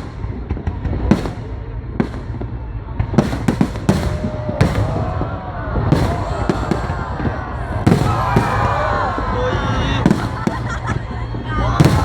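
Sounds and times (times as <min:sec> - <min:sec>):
fireworks bangs: 0:00.0 - 0:12.0
fireworks whistling: 0:00.0 - 0:12.0.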